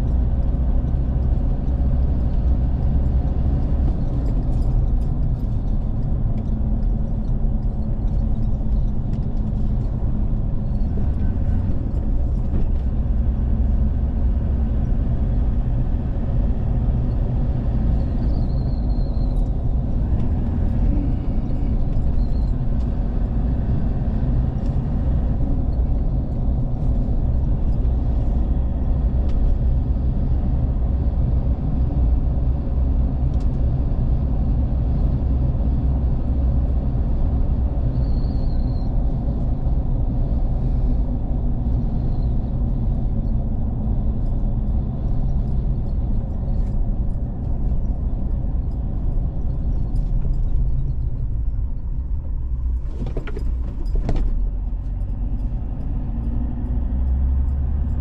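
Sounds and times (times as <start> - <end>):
road noise: 0.0 - 58.0
vehicle engine hum: 0.0 - 58.0.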